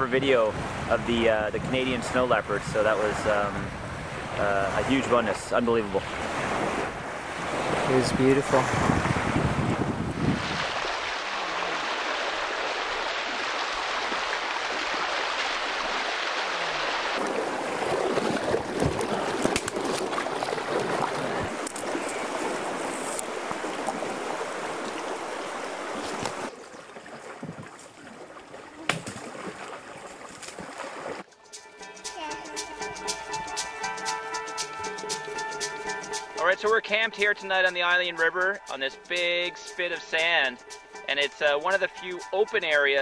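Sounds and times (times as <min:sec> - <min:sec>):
shallow river flowing: 0:01.8 - 0:43.0.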